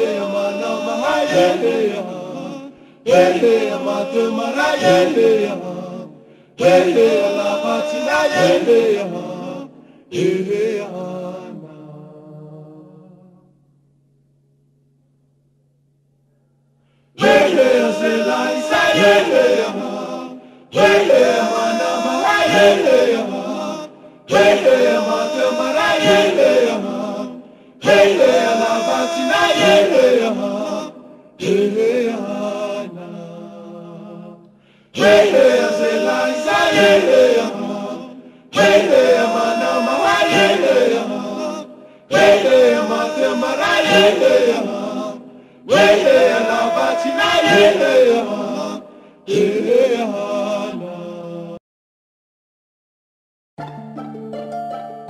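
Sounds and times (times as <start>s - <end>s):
choir chanting a sung phrase: 0.0s - 13.4s, 17.2s - 51.6s.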